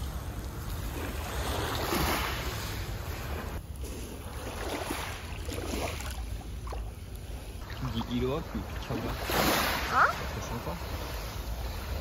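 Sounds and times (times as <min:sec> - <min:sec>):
waves washing over pebbles: 0:00.0 - 0:12.0.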